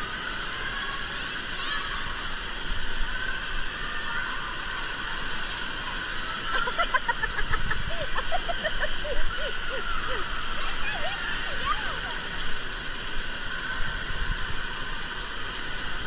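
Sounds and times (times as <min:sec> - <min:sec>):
children calling: 0:00.0 - 0:15.4
water splashing: 0:00.0 - 0:16.0.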